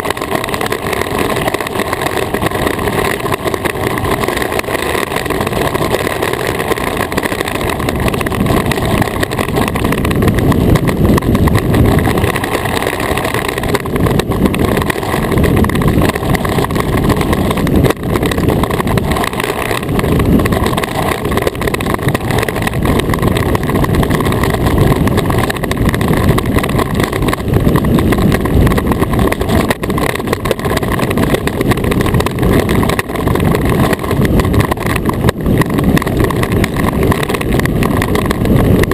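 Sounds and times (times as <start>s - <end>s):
runners rumbling over ice: 0.0s - 38.9s.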